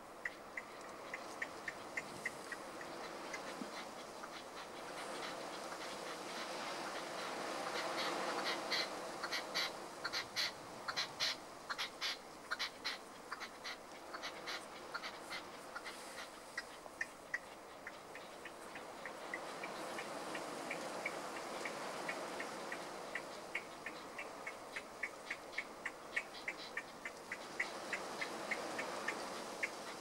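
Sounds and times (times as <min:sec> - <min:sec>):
partridge calling: 0:00.0 - 0:30.0.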